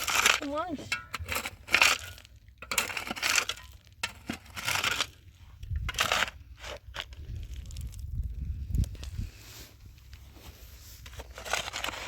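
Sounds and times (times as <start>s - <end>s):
crunching and scraping: 0.0s - 12.0s.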